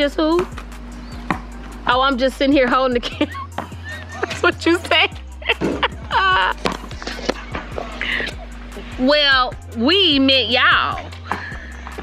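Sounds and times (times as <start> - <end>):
background music: 0.0 - 12.0
steady low hum: 0.0 - 12.0.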